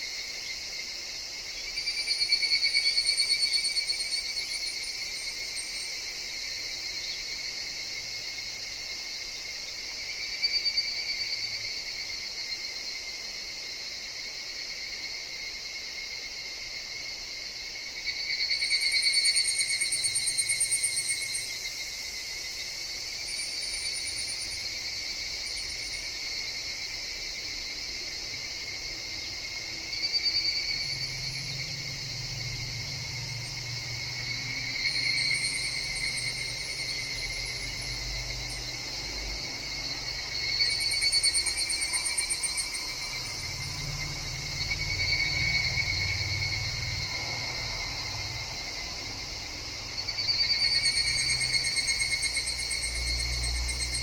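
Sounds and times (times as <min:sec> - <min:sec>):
cicada chorus: 0:00.0 - 0:54.0
louder cicada trilling calls: 0:00.0 - 0:54.0.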